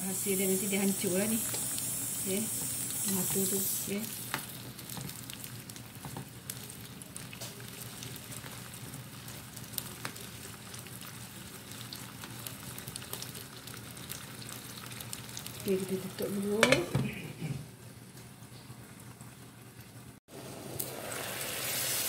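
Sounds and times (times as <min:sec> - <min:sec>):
broth boiling in a pan: 0:00.0 - 0:22.0.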